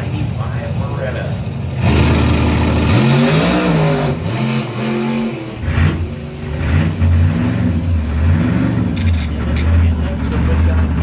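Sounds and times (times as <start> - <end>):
drag car engine roaring: 0.0 - 11.0.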